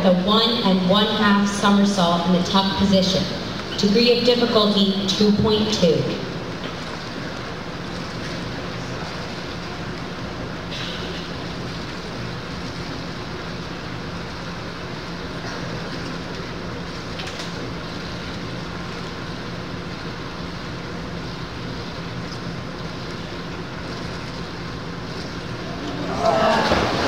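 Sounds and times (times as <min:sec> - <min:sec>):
constant low hum: 0:00.0 - 0:27.0.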